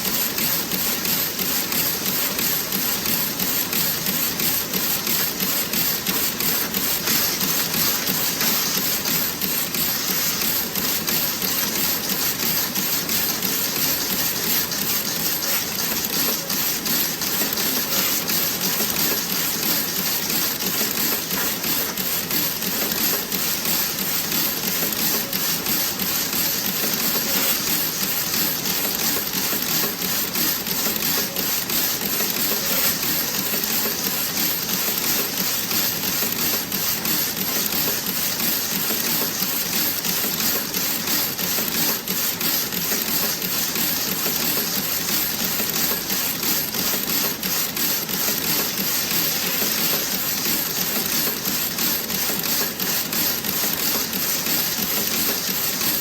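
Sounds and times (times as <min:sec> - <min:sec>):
knitting machine clattering: 0:00.2 - 0:56.0.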